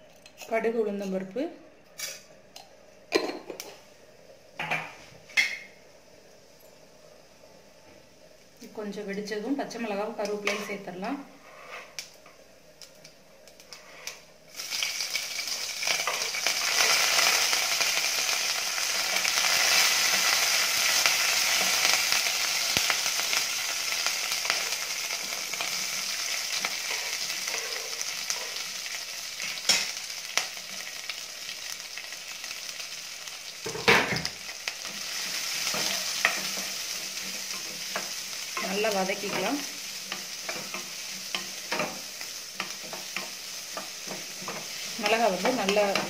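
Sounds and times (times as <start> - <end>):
loud sizzle in hot oil: 7.0 - 46.0.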